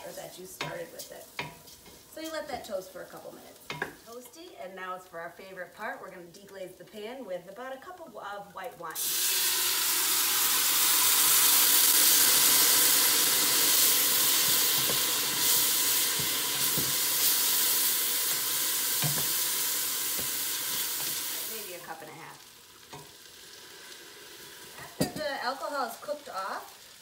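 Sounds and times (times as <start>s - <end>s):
wine sizzling in a hot pot: 0.0s - 27.0s.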